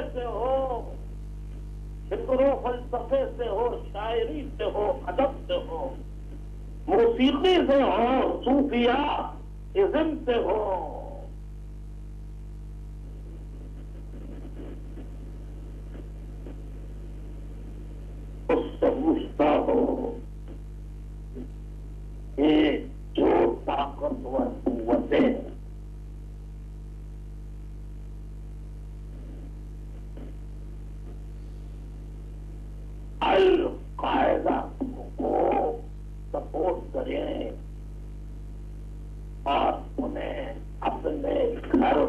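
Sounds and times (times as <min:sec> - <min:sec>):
electrical hum: 0:00.0 - 0:42.0.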